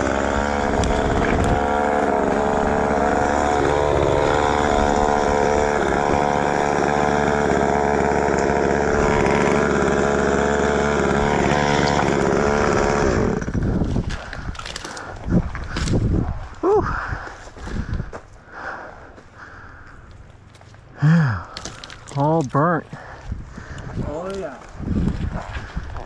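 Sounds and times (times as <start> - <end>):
chainsaw running at high revs: 0.0 - 16.1, 21.0 - 26.0.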